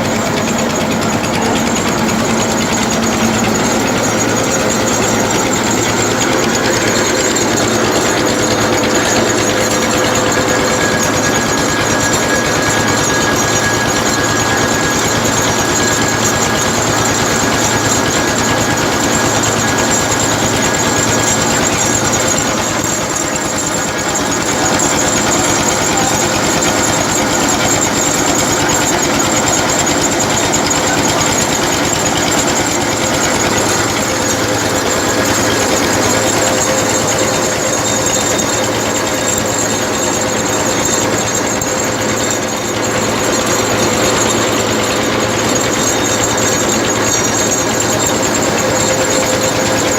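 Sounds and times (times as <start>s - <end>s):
flour mill engine clattering: 0.0s - 49.9s.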